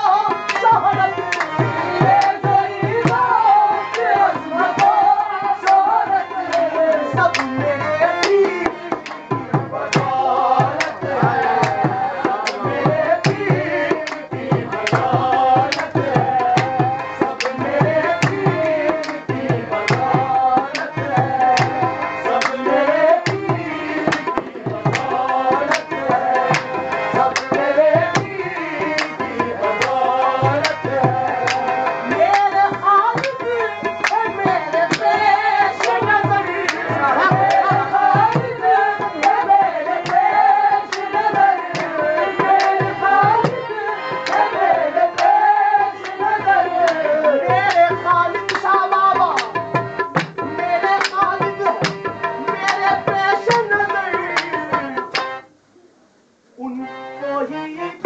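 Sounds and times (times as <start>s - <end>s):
tabla rhythm: 0.0s - 55.5s
harmonium melody: 0.0s - 55.6s, 56.6s - 58.0s
voices singing: 0.0s - 55.9s, 56.6s - 58.0s.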